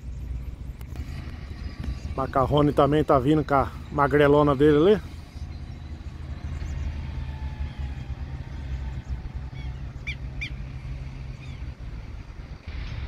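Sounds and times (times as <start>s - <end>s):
bird chirping: 0.0s - 13.0s
steady low rumble: 0.0s - 13.0s.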